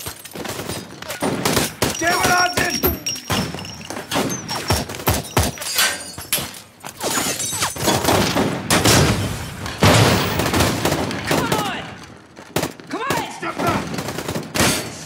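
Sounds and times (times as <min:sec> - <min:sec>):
rapid gunfire: 0:00.0 - 0:05.6, 0:07.9 - 0:15.0.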